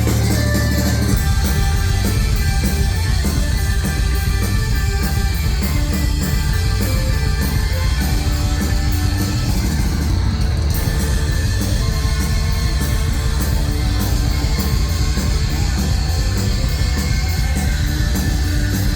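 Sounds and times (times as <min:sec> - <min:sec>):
rock band playing live: 0:00.0 - 0:18.9.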